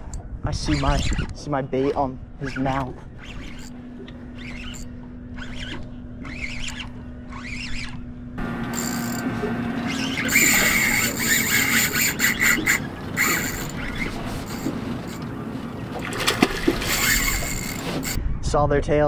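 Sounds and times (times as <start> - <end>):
fishing reel whirring: 0.0 - 18.2
low steady hum: 0.0 - 18.2
rough buzzing with whine: 0.0 - 18.2.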